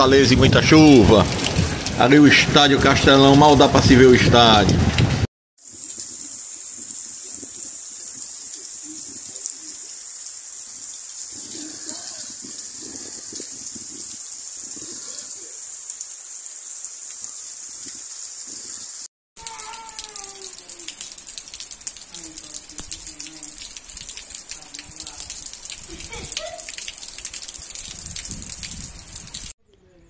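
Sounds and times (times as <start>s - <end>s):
rain pouring: 0.0s - 29.6s.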